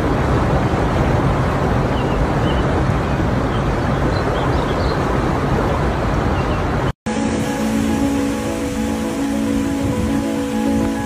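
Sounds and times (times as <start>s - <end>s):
flowing water: 0.0s - 11.0s.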